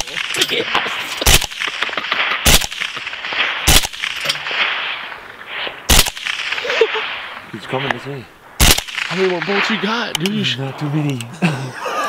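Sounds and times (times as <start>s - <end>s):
rifle shots: 0.0s - 11.0s.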